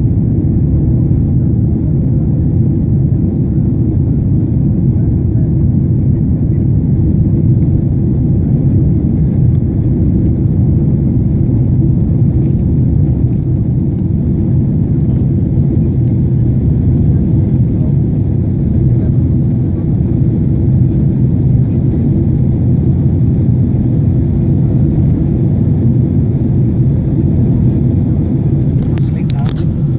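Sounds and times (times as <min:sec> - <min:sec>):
jet airliner cabin rumble: 0:00.0 - 0:29.9.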